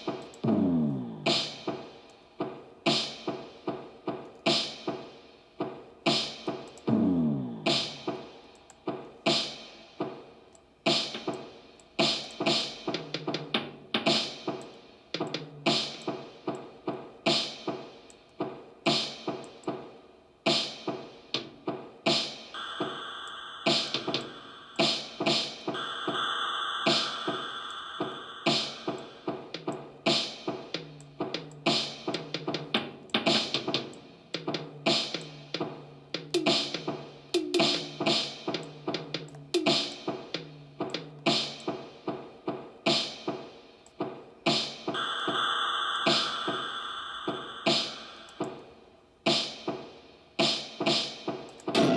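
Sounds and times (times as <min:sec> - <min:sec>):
synthesizer: 0:00.0 - 0:05.3, 0:06.0 - 0:18.2, 0:20.4 - 0:51.9
drum machine beat: 0:00.0 - 0:51.9.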